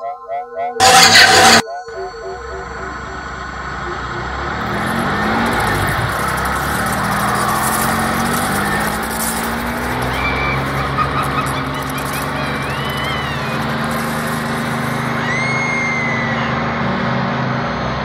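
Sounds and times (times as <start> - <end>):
cartoon car engine running: 0.0 - 18.0
short high squeal: 0.8 - 17.0.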